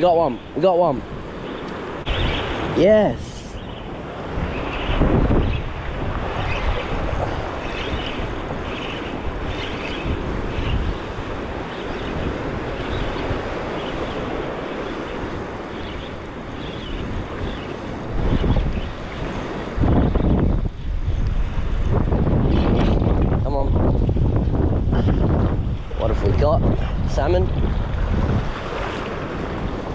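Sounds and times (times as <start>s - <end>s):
surf washing on beach: 0.0s - 29.9s
wind buffeting microphone: 0.0s - 29.9s.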